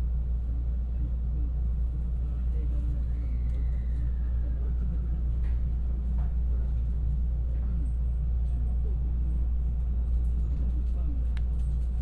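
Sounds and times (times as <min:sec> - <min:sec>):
electric train rumble and hum: 0:00.0 - 0:12.0.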